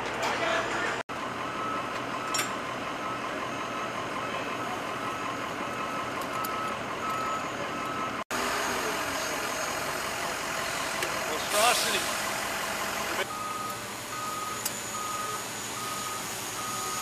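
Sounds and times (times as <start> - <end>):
vehicle background noise: 0.0 - 17.0
reversing alarm beeping: 1.1 - 17.0.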